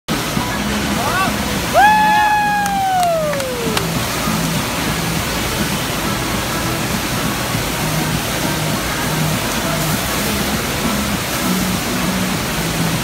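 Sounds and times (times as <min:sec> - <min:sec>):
rushing water: 0:00.1 - 0:13.0.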